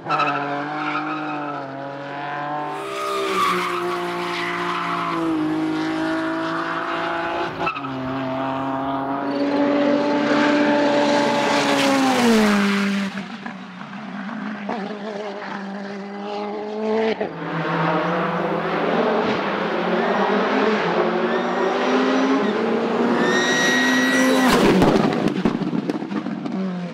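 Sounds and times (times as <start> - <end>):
car braking and downshifting: 0.0 - 26.9
racing car engines at full load: 0.0 - 26.9.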